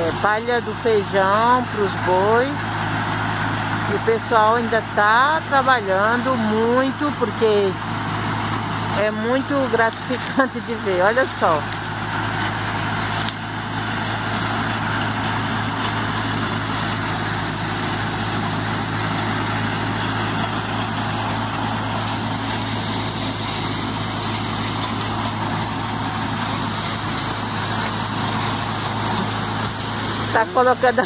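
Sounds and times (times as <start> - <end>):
threshing machine droning: 0.0 - 31.0.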